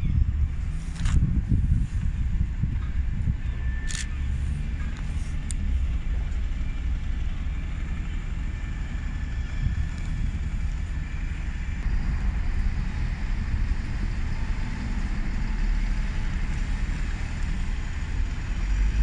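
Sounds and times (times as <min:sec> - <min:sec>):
steady low rumble: 0:00.0 - 0:19.0
bus driving past: 0:00.2 - 0:19.0.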